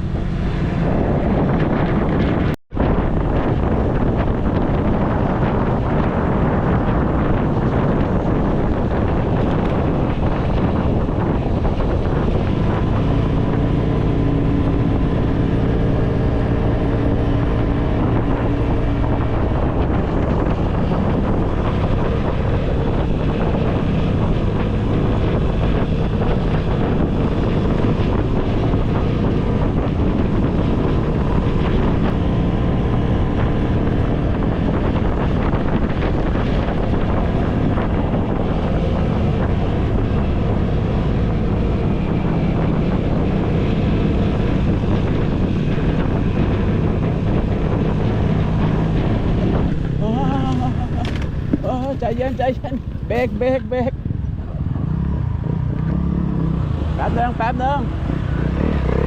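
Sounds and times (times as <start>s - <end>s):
engine running: 0.0s - 59.0s
wind buffeting microphone: 0.0s - 59.0s.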